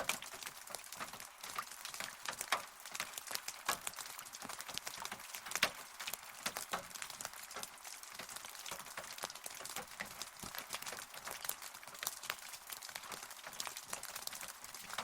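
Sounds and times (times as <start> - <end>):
raindrops ticking on a surface: 0.0 - 15.0.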